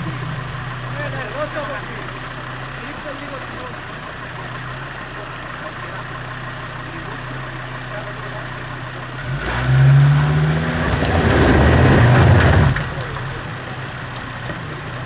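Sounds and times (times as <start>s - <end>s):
engine idling and revving: 0.0s - 15.0s.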